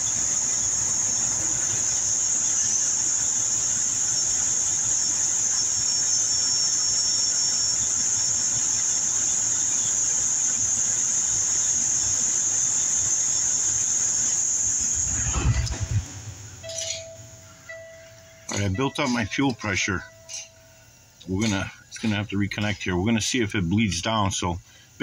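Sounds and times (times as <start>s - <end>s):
high-pitched whine: 0.0s - 25.0s.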